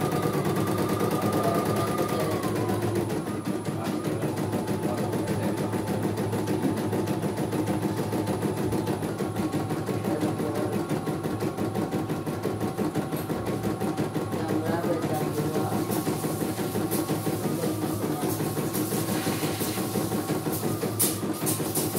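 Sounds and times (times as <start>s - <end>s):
motor hum: 0.0s - 21.9s.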